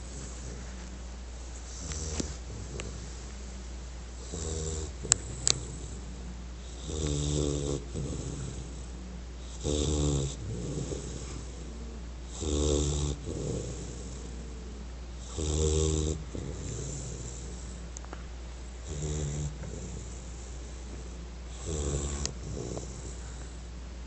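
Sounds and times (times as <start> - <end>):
dog snoring: 0.0 - 23.8.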